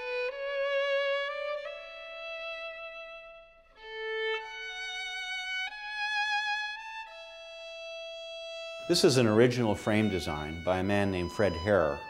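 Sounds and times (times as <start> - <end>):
slow violin melody: 0.0 - 12.0.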